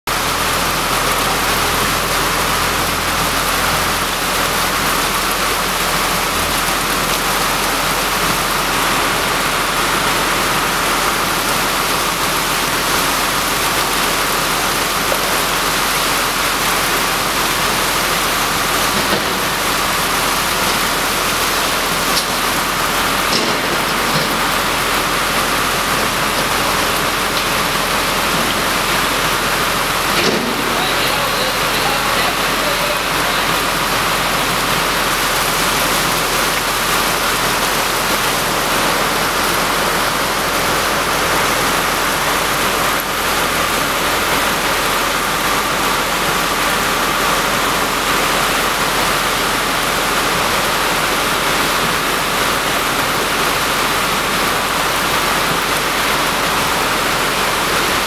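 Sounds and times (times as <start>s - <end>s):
water rushing out of tank: 0.1s - 58.0s.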